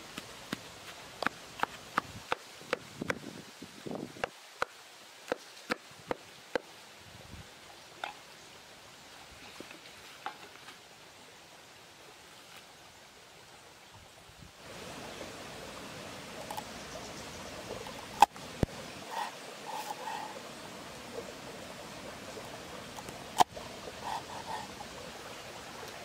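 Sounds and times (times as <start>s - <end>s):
shallow stream rushing: 0.0s - 26.0s.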